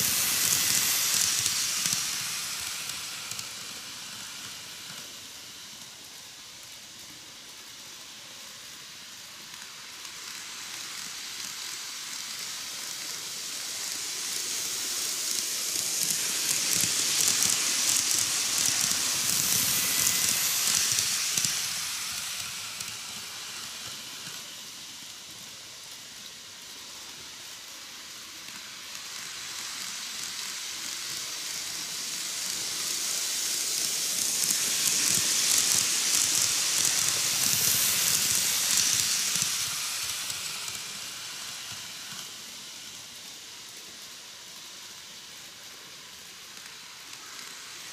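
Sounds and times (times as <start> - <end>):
model train wheels rattling: 0.0 - 6.1, 8.2 - 47.9.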